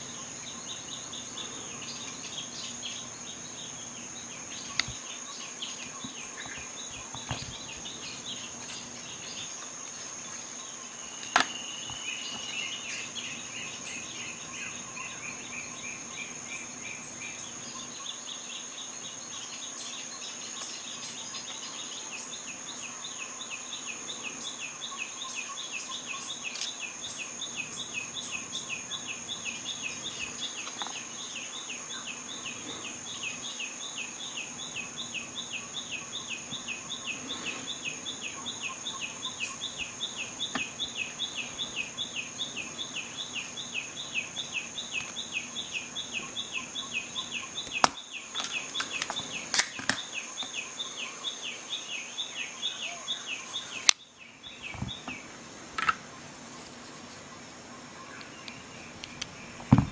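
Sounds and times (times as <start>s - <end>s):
constant high whine: 0.0s - 59.9s
insect chirping: 0.0s - 59.9s.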